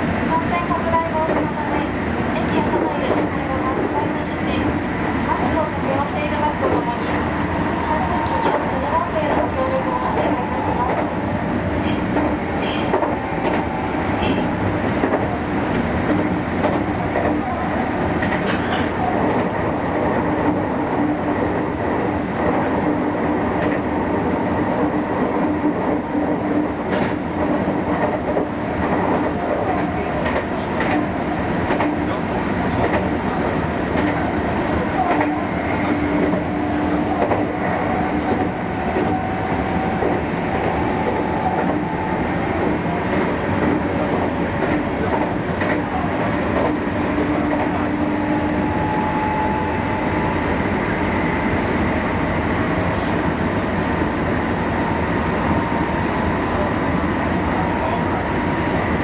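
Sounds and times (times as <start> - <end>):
electric train running noise: 0.0 - 59.0.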